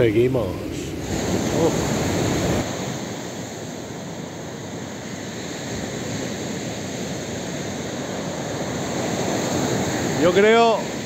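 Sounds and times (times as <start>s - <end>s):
surf rushing on shore: 0.0s - 11.0s.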